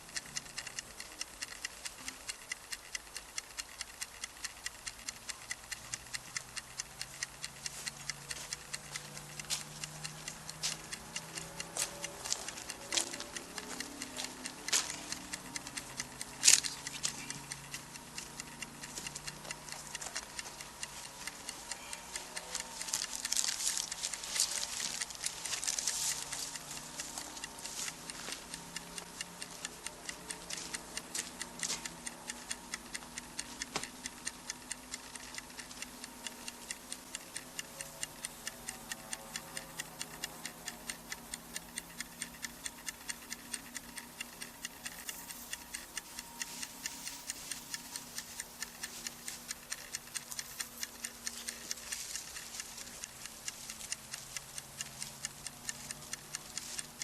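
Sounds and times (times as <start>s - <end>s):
steady even ticking: 0.0s - 57.0s.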